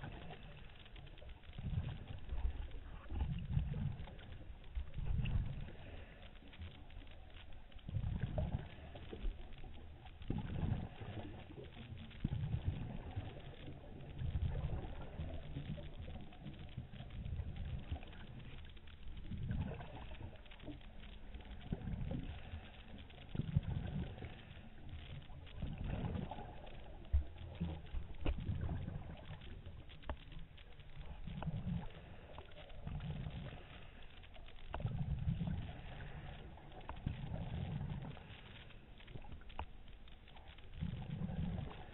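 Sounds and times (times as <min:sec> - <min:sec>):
bubbling rumbles of exhaled air: 0:00.0 - 0:41.9
faint clicks: 0:00.0 - 0:41.9.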